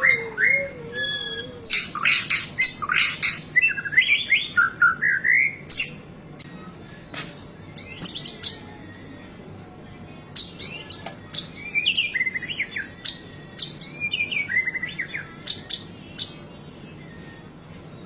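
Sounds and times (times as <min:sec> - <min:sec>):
bird singing whistles and trills: 0:00.0 - 0:06.1, 0:07.7 - 0:09.2, 0:10.3 - 0:18.0.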